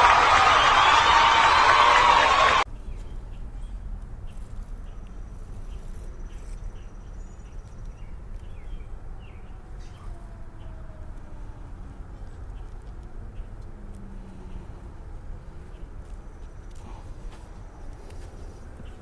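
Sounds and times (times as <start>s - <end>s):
small birds chirping: 2.7s - 19.0s.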